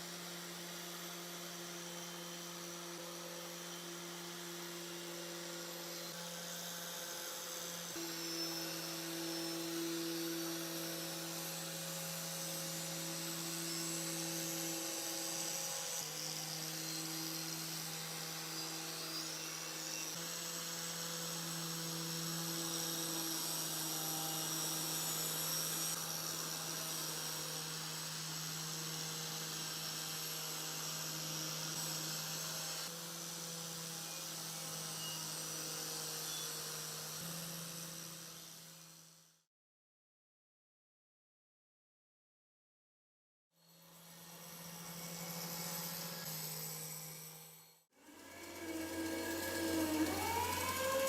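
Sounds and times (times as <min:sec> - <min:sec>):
electric power tool motor humming: 0:00.1 - 0:39.2, 0:44.0 - 0:51.0.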